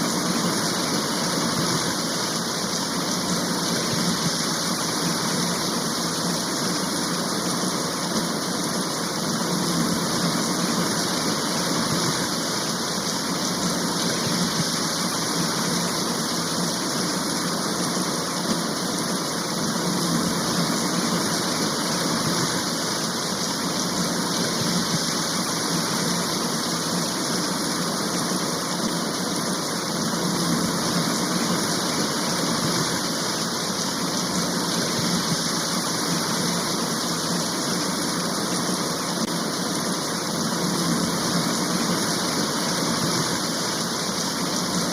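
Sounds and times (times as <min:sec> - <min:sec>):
steady rain hiss: 0:00.0 - 0:44.9.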